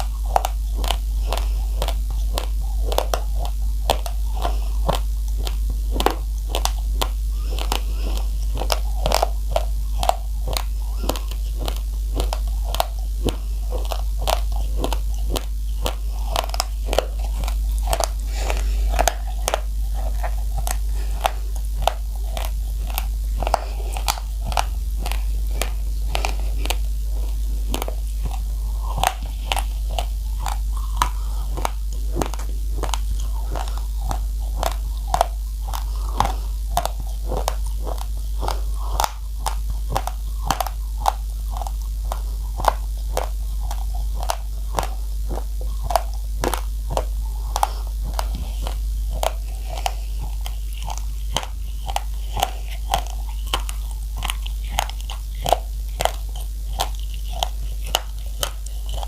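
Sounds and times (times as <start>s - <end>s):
constant low hum: 0.0s - 59.0s
rice grains crunching when chewed: 0.0s - 59.0s.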